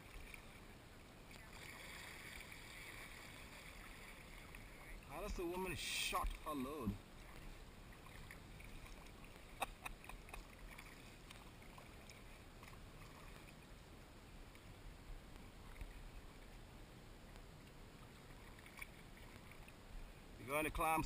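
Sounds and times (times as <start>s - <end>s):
kayak paddling in water: 0.0s - 21.0s.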